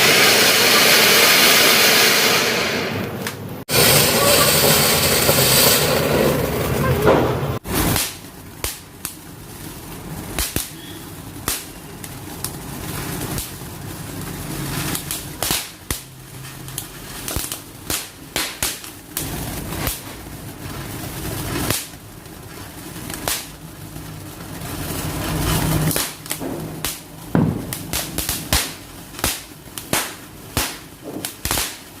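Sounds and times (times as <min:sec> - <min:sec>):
firecrackers cracking: 0:00.0 - 0:32.0.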